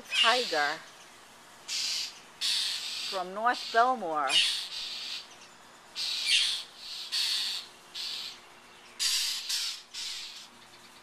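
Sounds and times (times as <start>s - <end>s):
birds harsh alarm calls: 0.0s - 11.0s.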